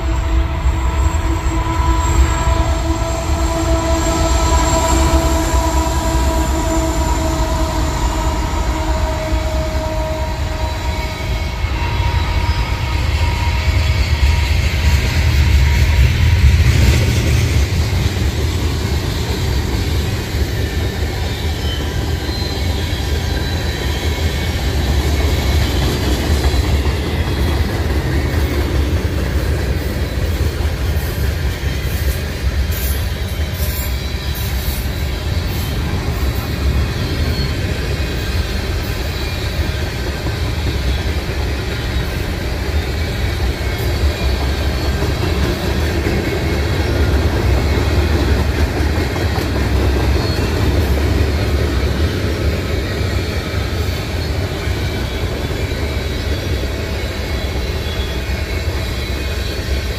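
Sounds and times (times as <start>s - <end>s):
high wheel squeal: 0.0s - 59.9s
train wheels rumbling on rails: 0.0s - 59.9s.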